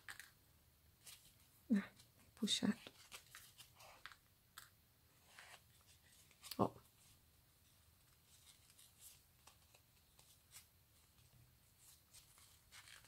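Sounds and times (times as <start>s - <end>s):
faint ribbon rustles: 1.0s - 4.2s, 5.1s - 13.0s.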